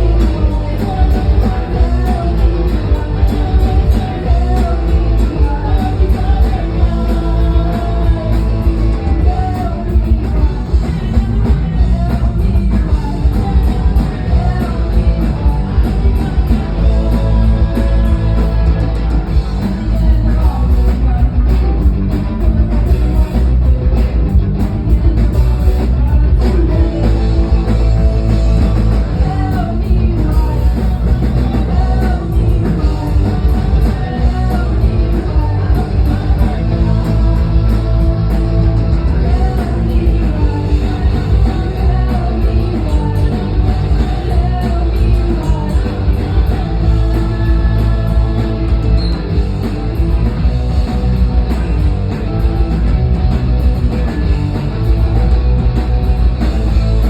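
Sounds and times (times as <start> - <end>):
person singing: 0.0 - 52.8
live rock band playing: 0.0 - 57.0.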